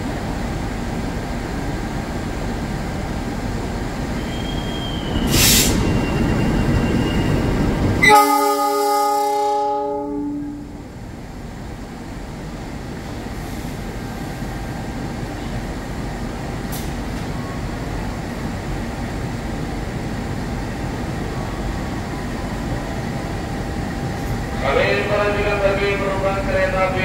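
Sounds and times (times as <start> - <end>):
diesel locomotive rumbling: 0.0 - 27.0.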